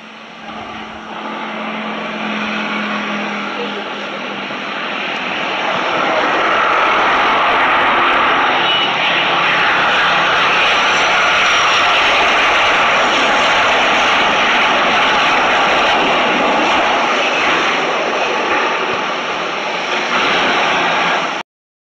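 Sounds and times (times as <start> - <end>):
jet engines rushing: 0.0 - 21.4.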